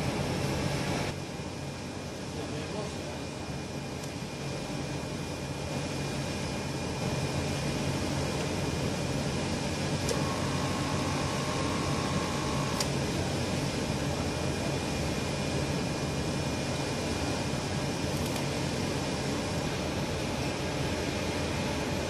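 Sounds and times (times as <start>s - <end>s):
faint steady whine: 0.0s - 22.0s
printer machinery hum and hiss: 0.0s - 22.0s.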